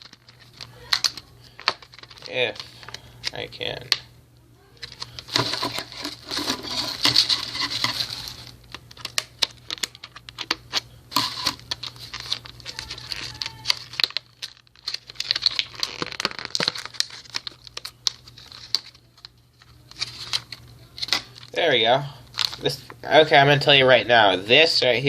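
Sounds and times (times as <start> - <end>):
packaging crinkling and rustling: 0.0 - 4.0, 4.6 - 21.6, 22.2 - 23.4.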